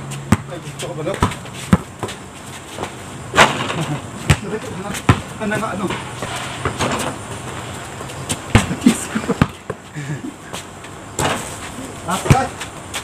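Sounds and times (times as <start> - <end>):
basketball bouncing on concrete: 0.2 - 3.6, 4.2 - 9.9, 10.5 - 13.0.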